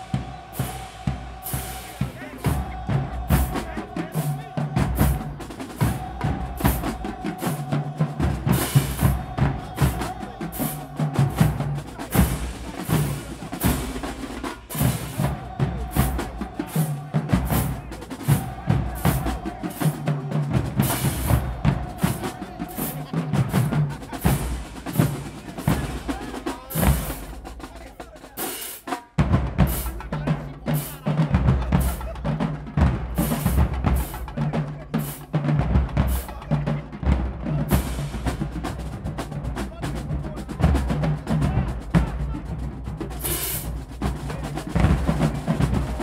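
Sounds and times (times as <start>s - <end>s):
drumline playing a cadence: 0.0s - 46.0s.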